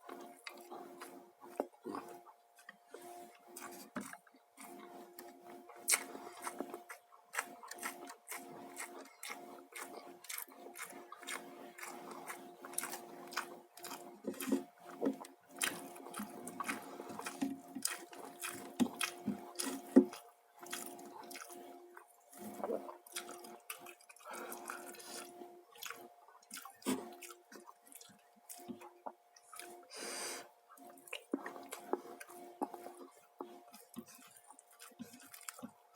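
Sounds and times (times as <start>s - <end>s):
faint steady hum: 0.0s - 35.9s
wet chewing and lip-smacking: 0.0s - 35.9s.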